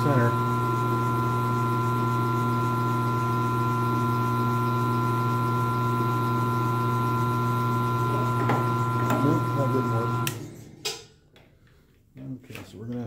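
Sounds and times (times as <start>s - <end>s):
milling machine motor humming: 0.0s - 10.8s.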